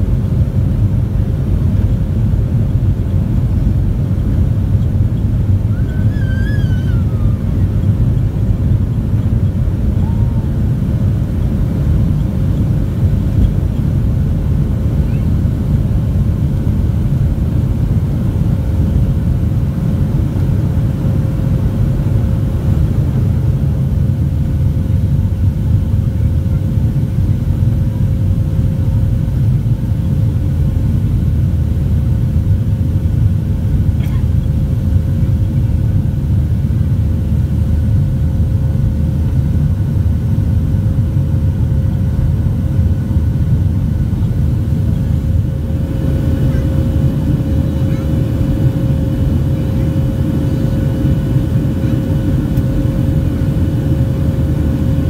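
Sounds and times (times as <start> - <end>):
thin steady hum: 0.0 - 23.7, 24.7 - 55.0
jet engines rumbling: 0.0 - 55.0.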